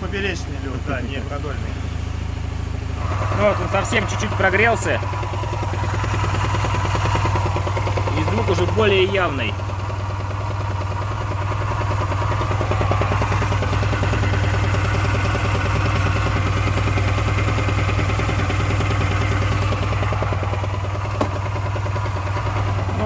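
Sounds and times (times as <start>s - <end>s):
scooter engine idling with knock: 1.6s - 23.0s.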